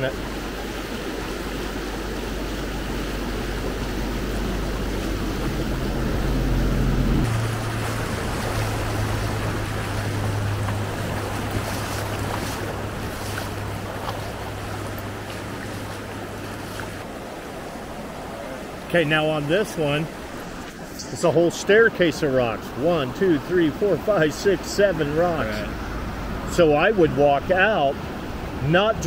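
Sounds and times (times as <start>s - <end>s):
river flowing over rocks: 0.0s - 29.0s.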